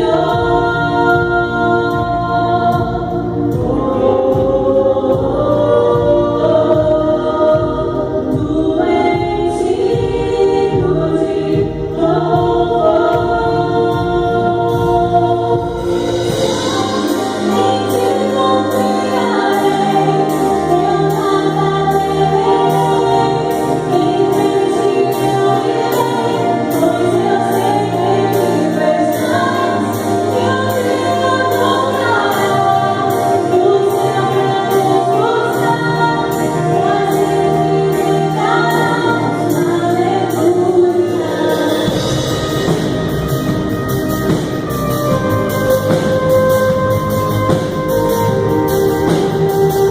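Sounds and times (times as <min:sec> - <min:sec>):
gospel choir with instruments: 0:00.0 - 0:49.9.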